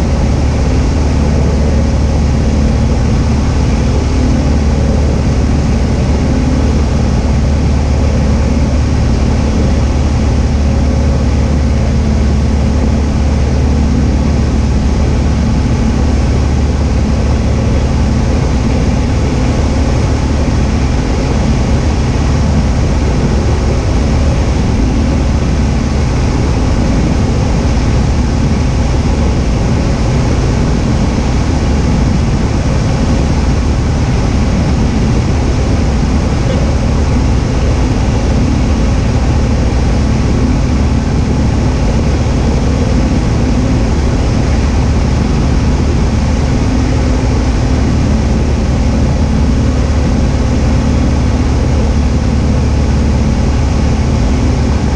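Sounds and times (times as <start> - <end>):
propeller plane engine drone: 0.0 - 54.9.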